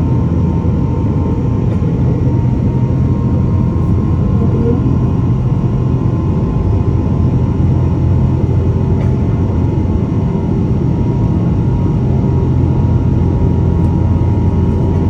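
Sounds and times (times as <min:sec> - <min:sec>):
faint steady whine: 0:00.0 - 0:15.0
jet engine roar in cabin: 0:00.0 - 0:15.0.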